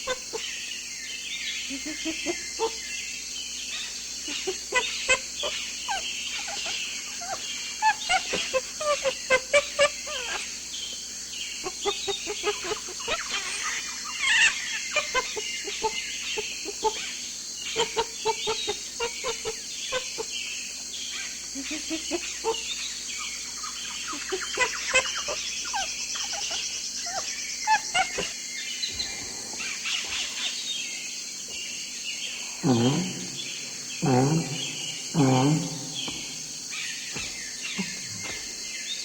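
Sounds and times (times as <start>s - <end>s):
birds clucking and chirping: 0.0s - 0.8s, 1.4s - 3.1s, 3.7s - 39.0s.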